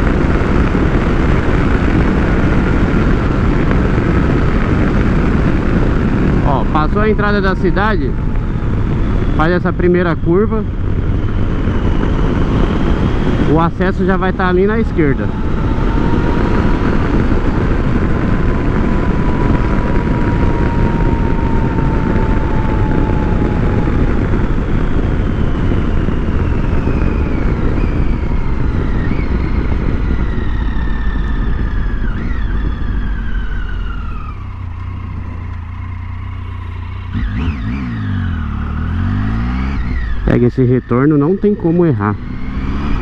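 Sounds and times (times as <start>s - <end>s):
motorcycle engine running: 0.0s - 43.0s
rush of wind: 0.0s - 43.0s.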